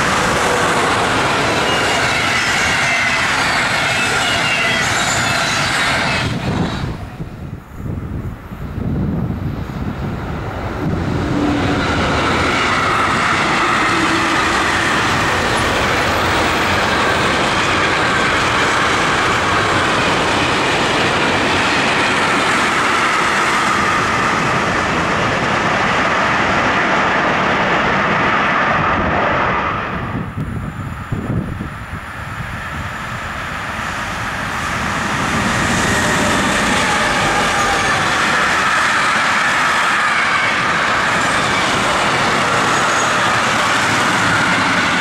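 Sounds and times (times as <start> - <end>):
freight train wheels rumbling on rail: 0.0 - 45.0.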